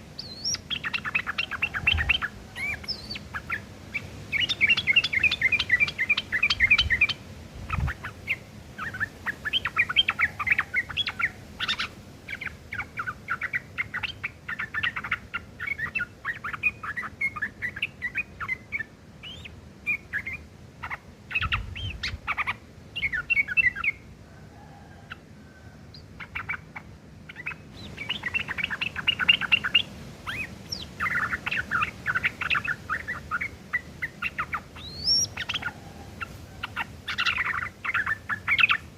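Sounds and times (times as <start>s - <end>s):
bird chattering song: 0.0s - 24.1s, 24.7s - 38.9s.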